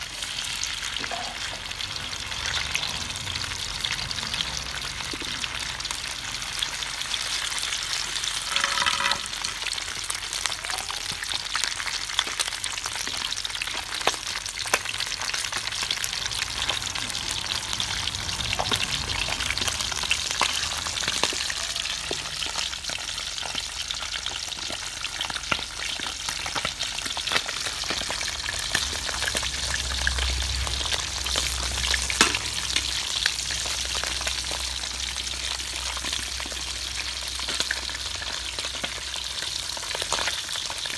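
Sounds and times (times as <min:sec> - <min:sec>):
fish sizzling and popping in oil: 0:00.0 - 0:40.9.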